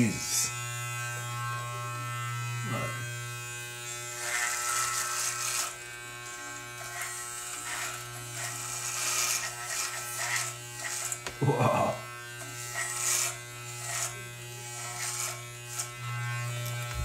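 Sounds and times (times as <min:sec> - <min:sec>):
electric hair clippers buzzing: 0:00.0 - 0:17.0
clippers rasping through beard: 0:00.2 - 0:17.0.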